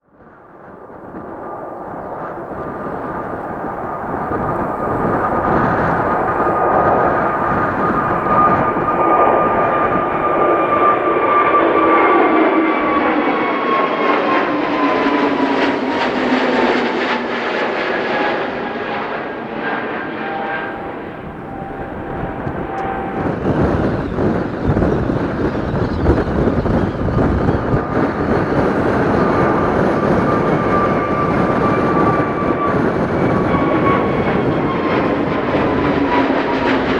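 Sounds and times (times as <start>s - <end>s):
airliner engines whining: 0.1s - 36.9s.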